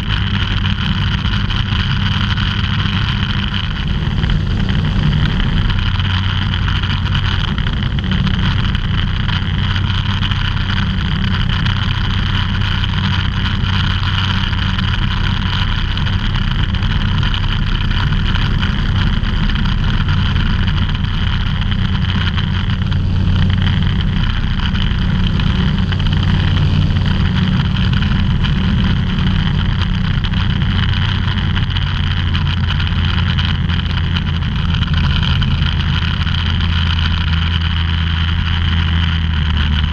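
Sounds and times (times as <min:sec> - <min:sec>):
aircraft engine drone: 0:00.0 - 0:39.9
airflow noise: 0:00.0 - 0:39.9.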